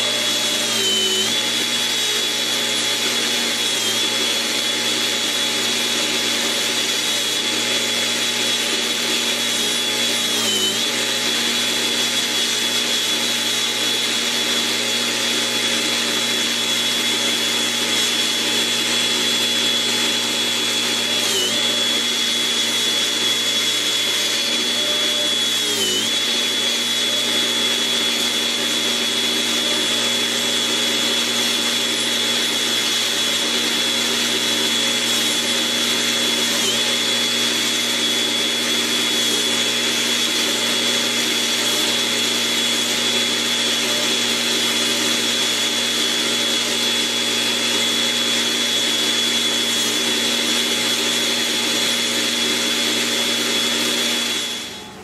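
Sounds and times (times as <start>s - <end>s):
angle grinder grinding metal: 0.0s - 55.0s.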